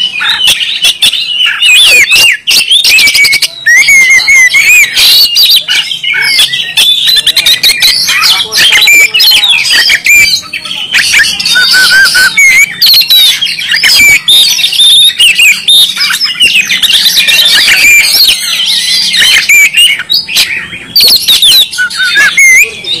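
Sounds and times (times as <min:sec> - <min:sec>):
songbird singing whistled notes: 0:00.0 - 0:23.0.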